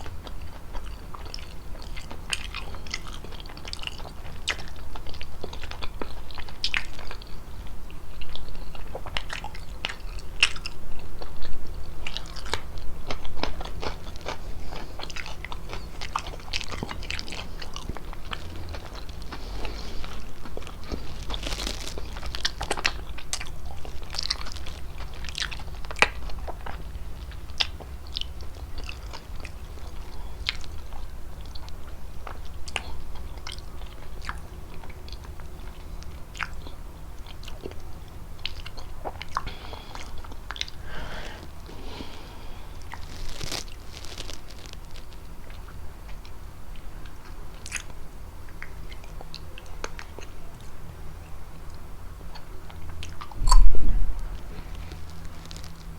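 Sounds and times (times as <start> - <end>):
chewing and wet mouth smacks: 0.0 - 50.8, 51.7 - 55.9.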